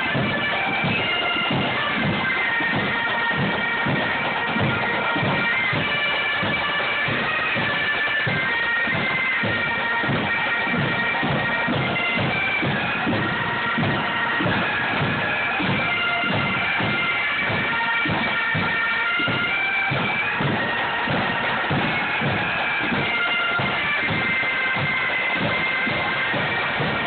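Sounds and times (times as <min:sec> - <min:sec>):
bagpipes playing a tune: 0:00.0 - 0:27.0.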